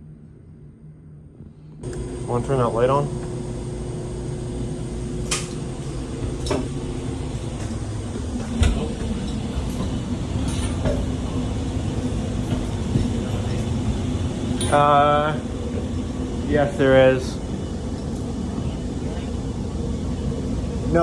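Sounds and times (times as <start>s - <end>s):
ventilation equipment humming: 1.8s - 21.0s.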